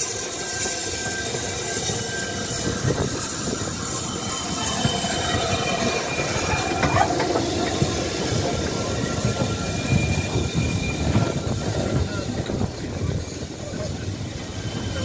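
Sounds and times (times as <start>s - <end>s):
high wheel squeal: 0.0s - 15.0s
train wheels rumbling on rail: 0.0s - 15.0s.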